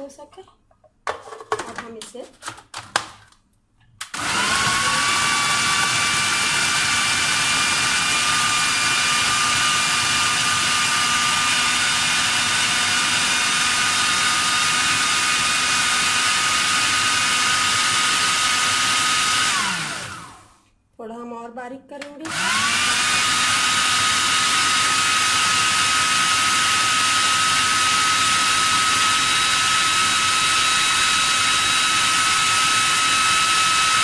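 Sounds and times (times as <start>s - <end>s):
food processor running: 4.0s - 20.6s, 22.3s - 34.0s.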